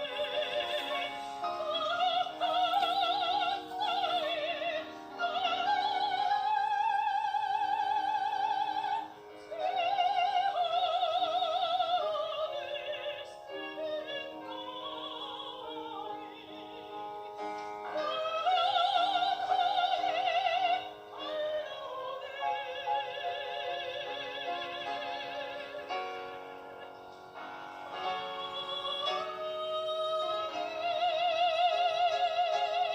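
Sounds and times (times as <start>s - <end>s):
soprano singing operatically: 0.0s - 17.3s, 17.9s - 26.9s, 27.8s - 32.9s
instrumental accompaniment: 0.0s - 32.9s.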